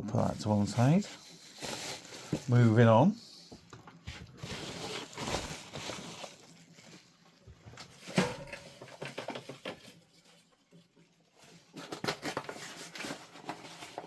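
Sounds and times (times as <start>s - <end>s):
rustling and rummaging: 0.2s - 14.0s.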